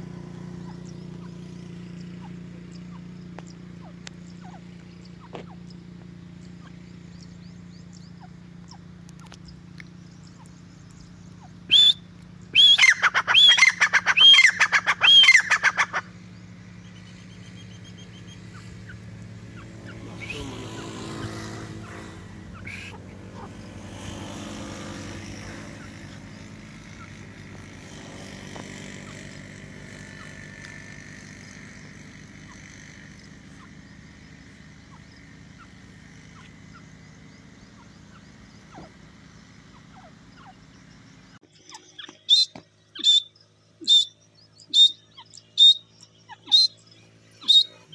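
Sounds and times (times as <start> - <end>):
francolin calling: 0.0 - 27.5, 28.8 - 47.9.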